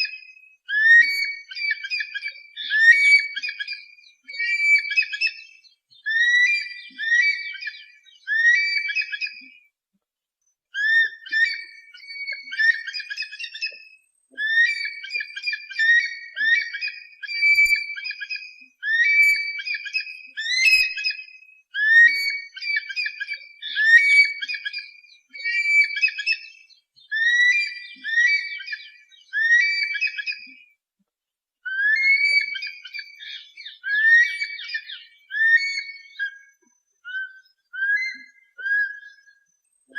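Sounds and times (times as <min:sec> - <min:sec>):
high whistled raptor calls: 0:00.0 - 0:09.4, 0:10.8 - 0:30.4, 0:31.7 - 0:39.5.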